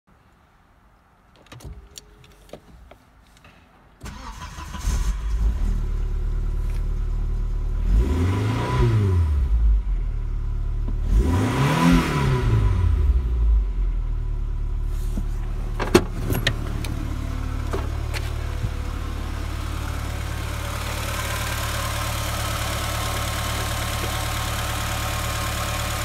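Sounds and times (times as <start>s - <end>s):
car engine starting and revving: 4.0s - 26.0s.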